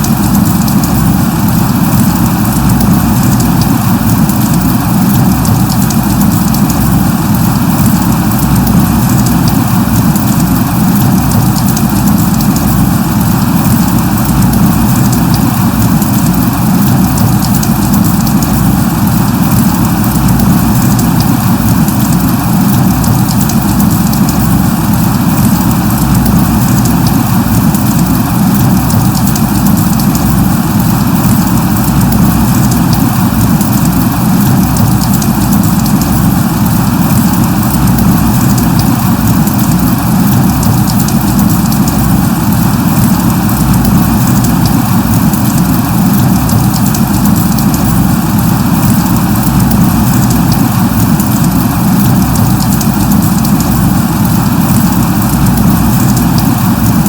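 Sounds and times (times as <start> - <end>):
light rain hissing: 0.0 - 57.0.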